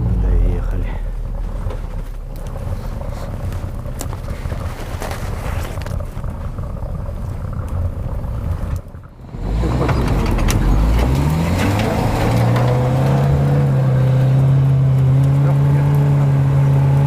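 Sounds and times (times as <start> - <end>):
suv engine revving under load: 0.0 - 17.0.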